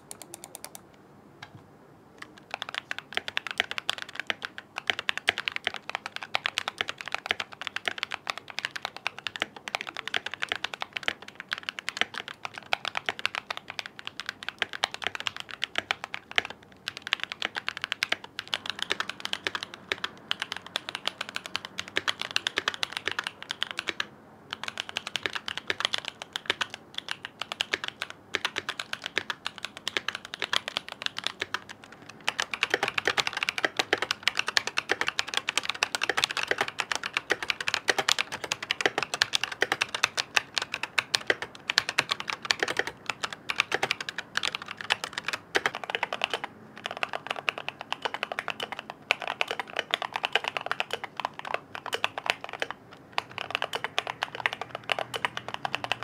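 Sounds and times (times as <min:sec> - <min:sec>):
mechanical keyboard typing: 0:00.0 - 0:00.8, 0:02.2 - 0:56.0.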